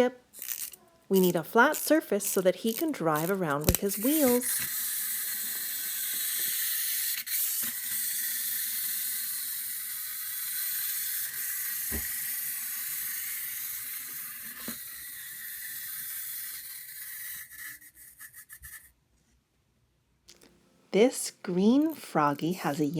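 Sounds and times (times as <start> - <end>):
clockwork toy motor whirring: 0.0 - 18.9.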